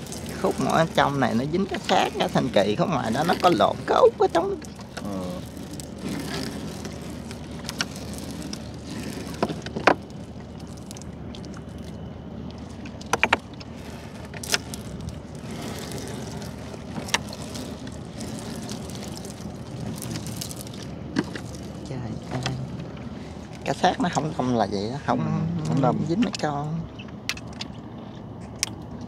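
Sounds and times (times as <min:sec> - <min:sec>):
boat engine rumble: 0:00.0 - 0:29.0.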